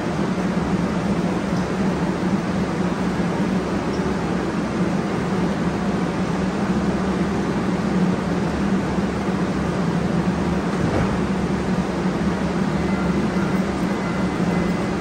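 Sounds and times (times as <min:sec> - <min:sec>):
train equipment humming and hissing: 0:00.0 - 0:15.0.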